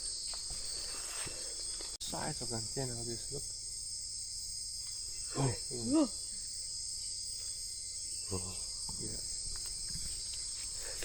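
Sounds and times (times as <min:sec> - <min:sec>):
insect chorus shrilling: 0:00.0 - 0:11.0.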